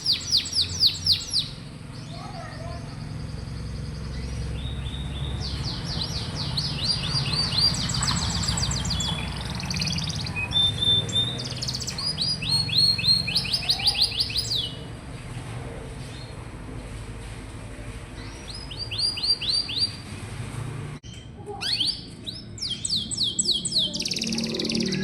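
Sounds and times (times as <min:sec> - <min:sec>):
canary singing rapid trills: 0:00.0 - 0:14.9, 0:18.2 - 0:20.0, 0:21.6 - 0:25.0.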